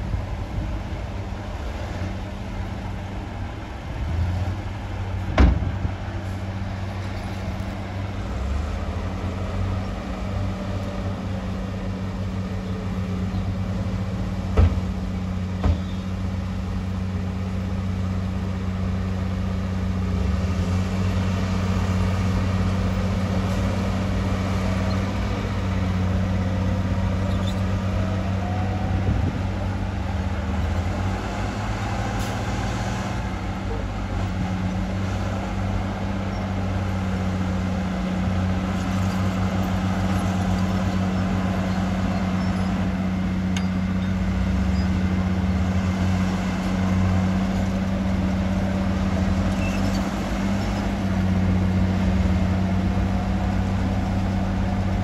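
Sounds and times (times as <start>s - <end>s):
large diesel engine running: 0.0s - 55.0s.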